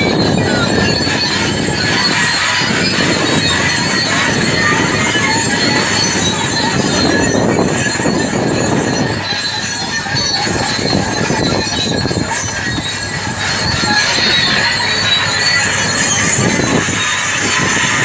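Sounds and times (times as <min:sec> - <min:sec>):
bulldozer engine rumbling: 0:00.0 - 0:18.0
steel tracks squealing and clanking: 0:00.0 - 0:18.0.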